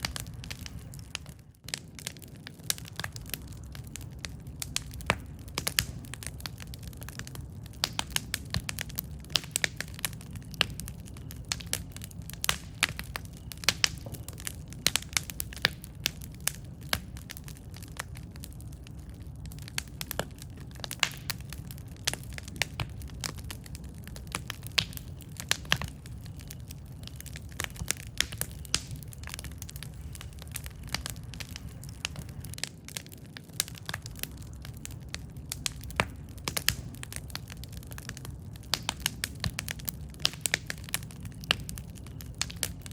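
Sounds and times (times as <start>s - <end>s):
campfire crackling and popping: 0.0s - 42.9s
low rumble of burning: 0.0s - 42.9s.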